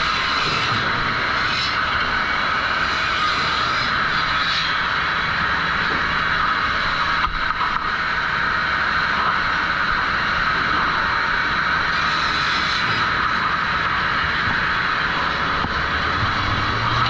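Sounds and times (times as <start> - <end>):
sawmill machinery drone: 0.0 - 17.0.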